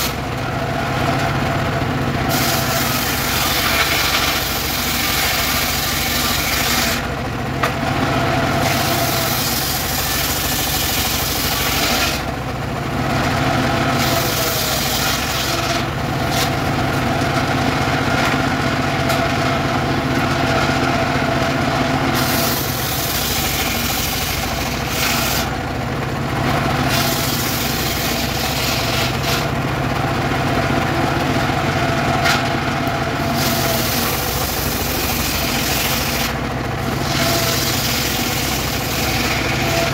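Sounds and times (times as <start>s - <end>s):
saw blade cutting wood: 0.0s - 1.3s, 2.2s - 12.4s, 13.2s - 25.6s, 26.6s - 29.6s, 31.0s - 39.9s
saw power unit running: 0.0s - 39.9s.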